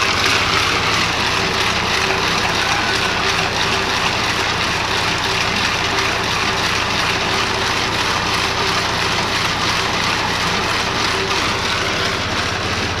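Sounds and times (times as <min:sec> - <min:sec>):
ice cream machine motor hum: 0:00.0 - 0:13.0.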